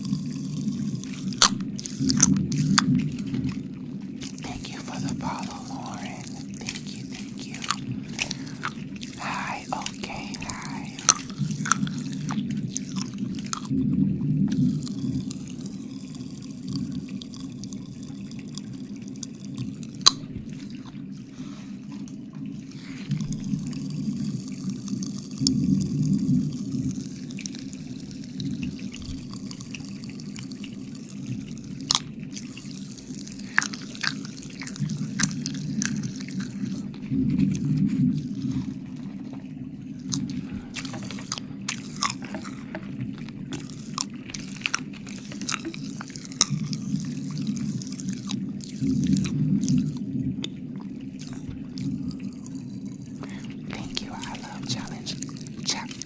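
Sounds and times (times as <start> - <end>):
wet mouth licking and smacking: 0.0 - 13.8, 14.5 - 39.4, 40.0 - 56.0.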